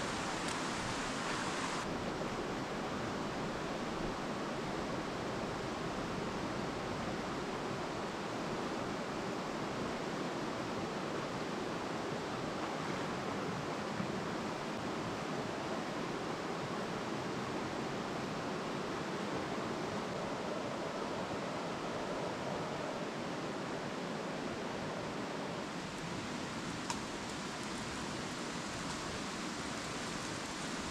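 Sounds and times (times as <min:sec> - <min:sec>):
river flowing over rocky rapids: 0:00.0 - 0:30.9.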